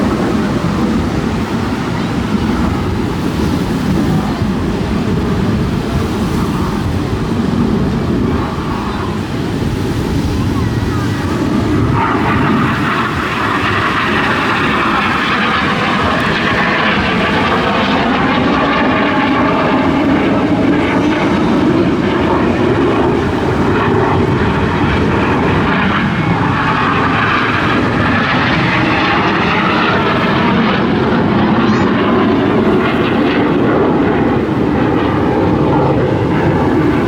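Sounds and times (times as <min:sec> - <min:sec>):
aircraft engine roar overhead: 0:00.0 - 0:37.0.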